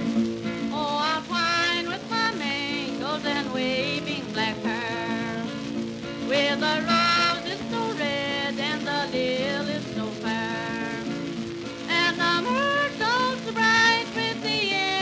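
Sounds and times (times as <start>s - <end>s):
guitar: 0.0s - 15.0s
person singing: 0.0s - 15.0s
record surface crackle: 0.0s - 15.0s.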